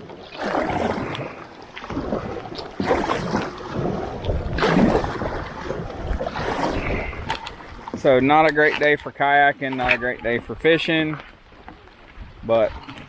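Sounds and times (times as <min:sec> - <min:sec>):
paddle splashing in water: 0:00.0 - 0:13.0.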